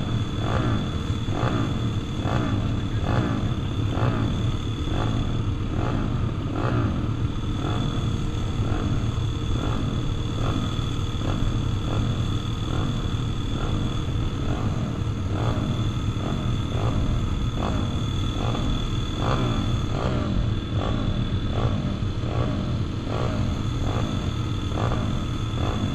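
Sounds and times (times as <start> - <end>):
pit bike engines revving: 0.0 - 25.9.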